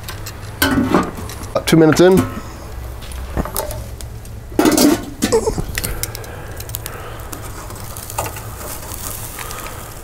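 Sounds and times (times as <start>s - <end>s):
metal tongs clattering on charcoal: 0.0s - 2.4s, 3.0s - 9.9s.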